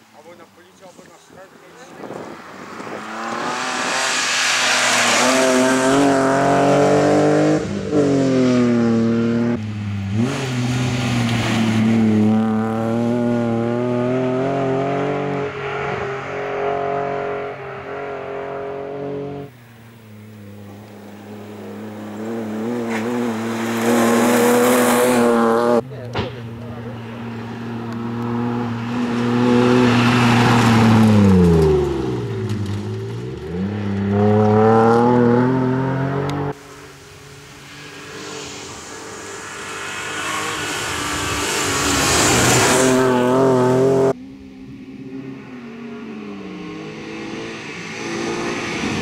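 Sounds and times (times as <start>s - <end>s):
rally car engine revving: 2.0s - 19.5s, 20.2s - 36.6s, 37.6s - 44.2s.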